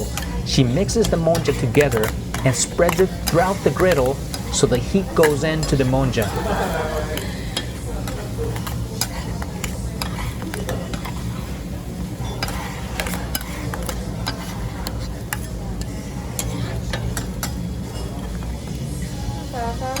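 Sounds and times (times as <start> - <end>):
metal spatulas scraping griddle: 0.0 - 17.5
soft sizzle: 0.0 - 20.0
steady low hum: 0.0 - 20.0.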